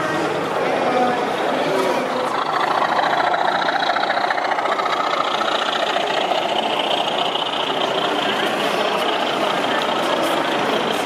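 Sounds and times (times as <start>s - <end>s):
model diesel locomotive engine rumble: 0.0s - 11.0s.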